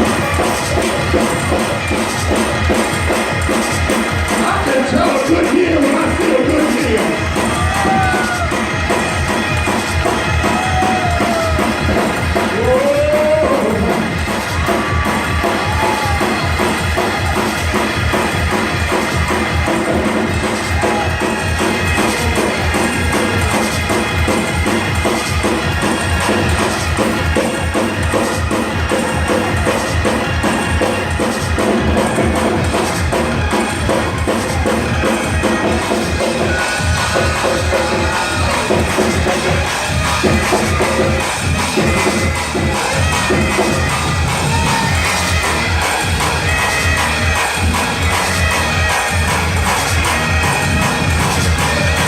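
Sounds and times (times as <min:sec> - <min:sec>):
drum kit fast beat: 0:00.0 - 0:52.0
gospel music: 0:00.0 - 0:52.0.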